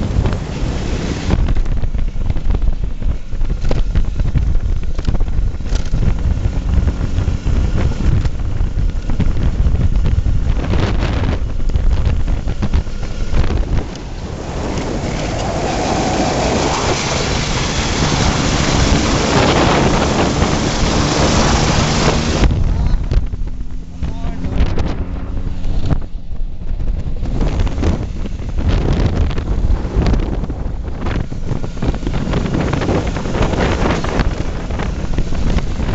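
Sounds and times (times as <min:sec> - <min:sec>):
low rumble: 0:00.0 - 0:35.9
wind buffeting microphone: 0:00.0 - 0:35.9.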